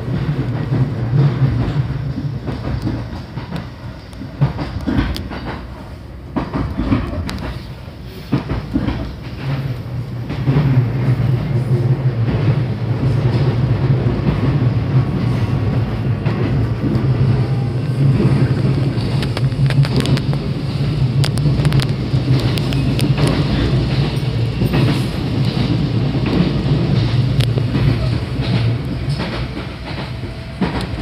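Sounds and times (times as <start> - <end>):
train low drone: 0.0 - 31.0
wheels clicking over rail joints: 0.0 - 31.0.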